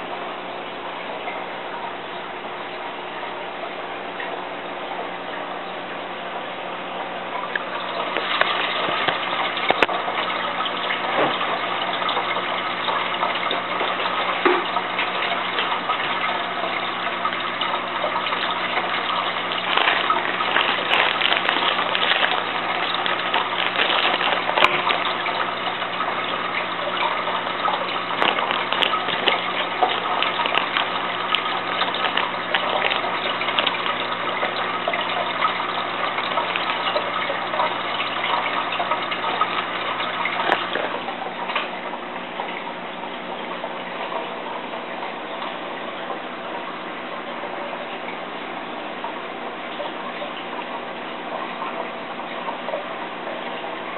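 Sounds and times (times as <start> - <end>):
aquarium water splashing: 0.0 - 53.9
faint steady hum: 0.0 - 53.9.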